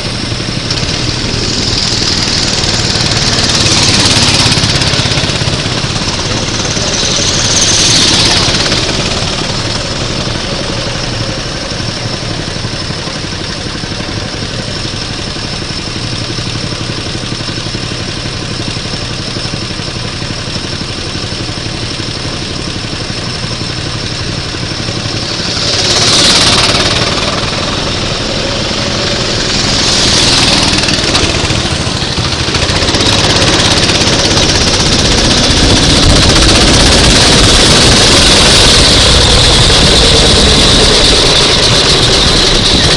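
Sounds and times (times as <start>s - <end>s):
go-kart engines running: 0.0s - 42.9s.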